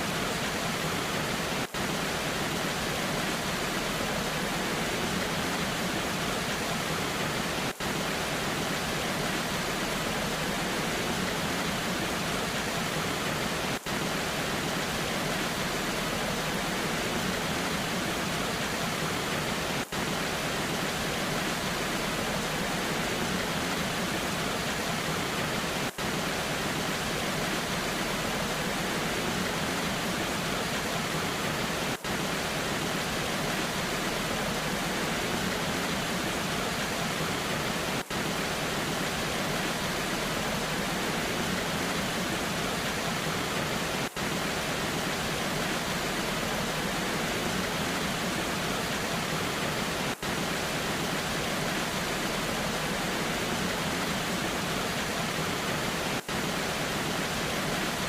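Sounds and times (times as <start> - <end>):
rain: 0.0 - 58.0
waterfall rushing: 0.0 - 58.0.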